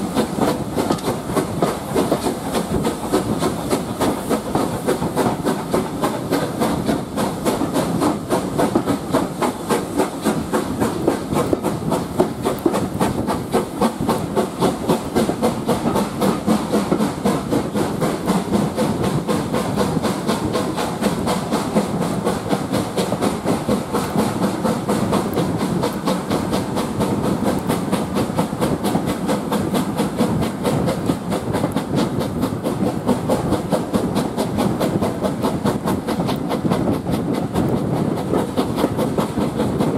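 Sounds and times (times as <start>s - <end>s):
steam hiss: 0.0s - 39.9s
train wheels clattering on rail: 0.0s - 39.9s.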